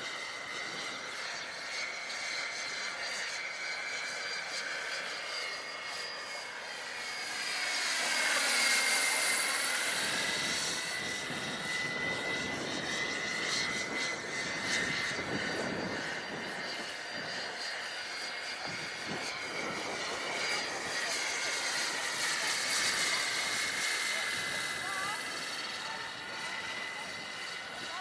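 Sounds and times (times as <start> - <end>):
model helicopter whine: 0.0 - 28.0
rotor rushing: 0.0 - 28.0.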